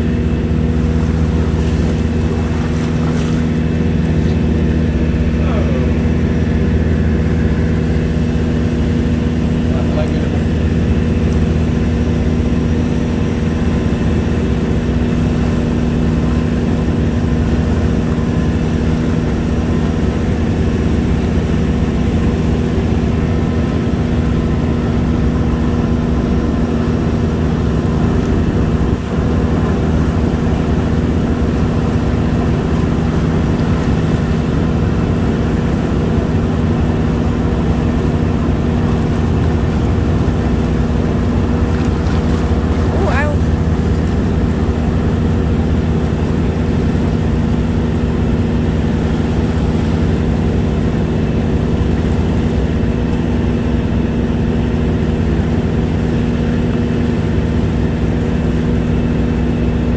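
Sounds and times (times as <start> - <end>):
boat engine humming: 0.0 - 59.9
water rushing past hull: 0.0 - 59.9.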